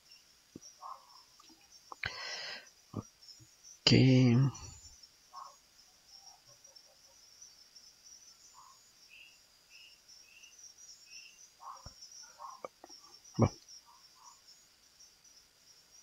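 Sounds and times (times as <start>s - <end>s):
faint high-pitched hiss: 0.0s - 16.0s.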